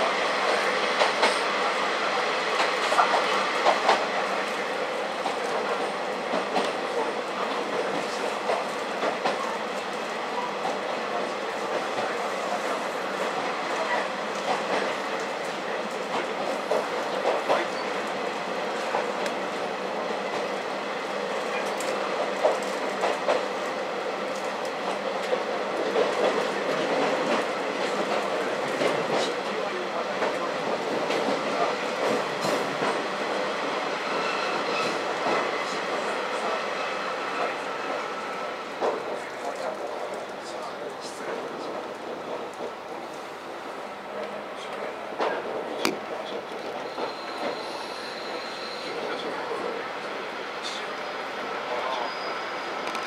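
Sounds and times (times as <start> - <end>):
diesel railcar running: 0.0 - 53.0.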